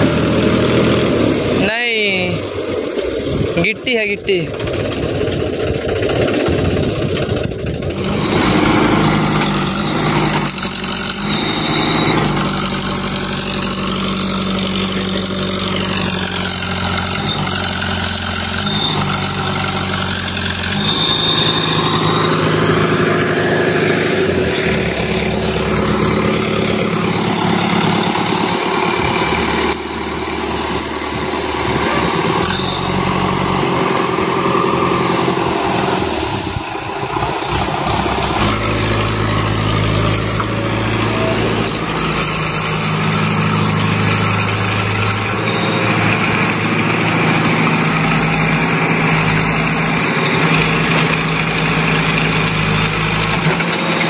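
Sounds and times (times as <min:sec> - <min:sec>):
backhoe loader diesel engine: 0:00.0 - 0:54.0
tractor diesel engine running: 0:00.0 - 0:54.0.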